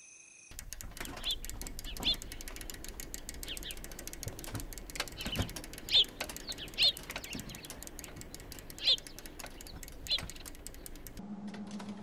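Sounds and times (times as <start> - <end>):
birds chirping: 0.5 - 11.2
rapid light clicks: 0.5 - 12.0.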